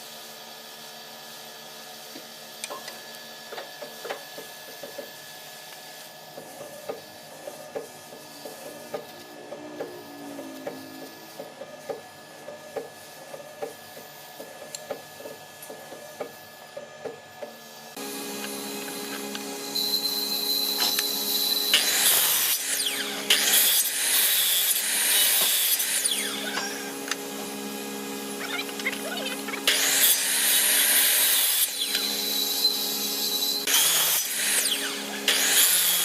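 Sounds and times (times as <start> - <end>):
steady background hum: 1.9 - 35.4.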